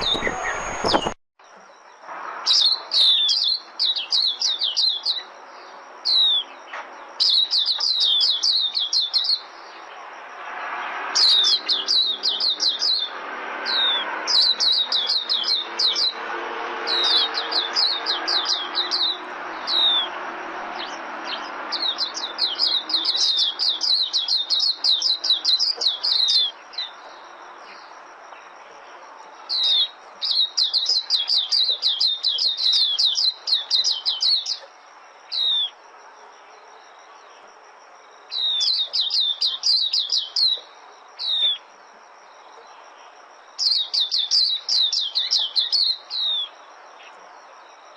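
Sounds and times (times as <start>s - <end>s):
bird twittering song: 0.0s - 20.2s, 20.8s - 35.8s, 38.2s - 47.9s.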